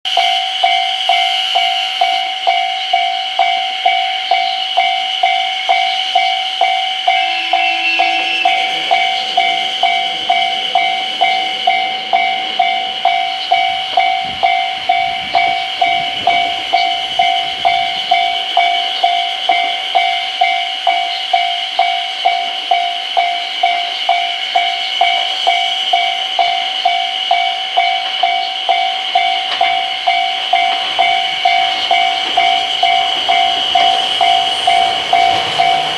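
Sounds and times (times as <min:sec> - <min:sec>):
level crossing alarm ringing: 0:00.0 - 0:35.9
diesel train rumbling past: 0:00.1 - 0:35.9.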